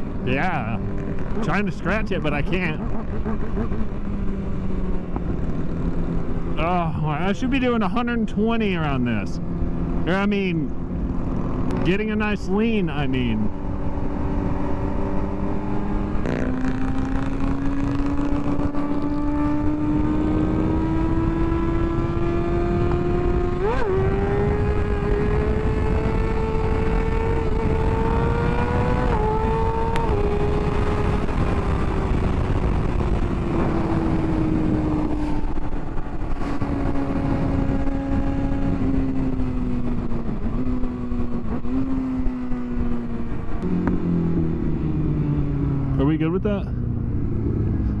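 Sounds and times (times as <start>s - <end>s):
motorcycle engine running: 0.0s - 12.0s, 13.3s - 46.0s.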